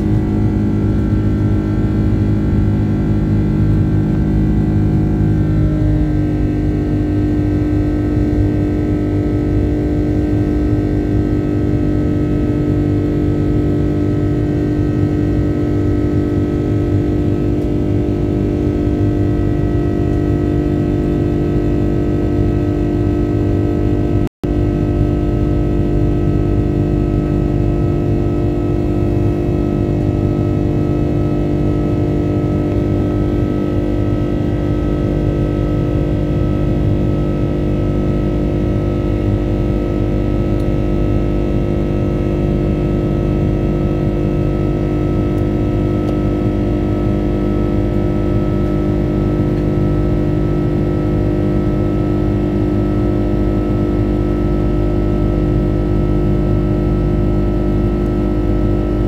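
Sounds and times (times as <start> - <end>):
jet engines droning in cabin: 0.0 - 59.0.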